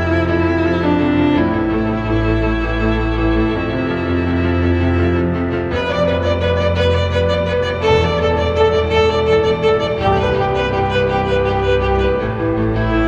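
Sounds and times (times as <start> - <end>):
slow instrumental music: 0.0 - 13.0.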